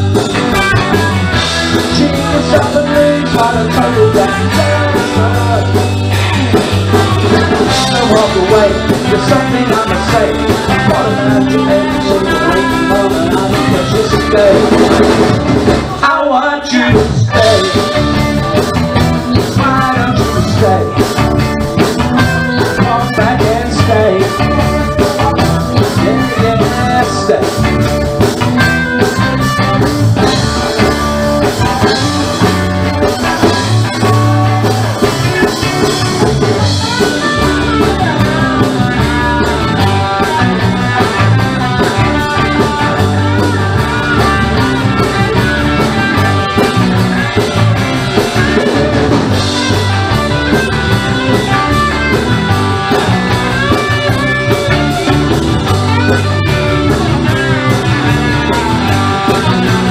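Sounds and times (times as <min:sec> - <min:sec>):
electric guitars: 0:00.0 - 0:59.9
live rock band: 0:00.0 - 0:59.9.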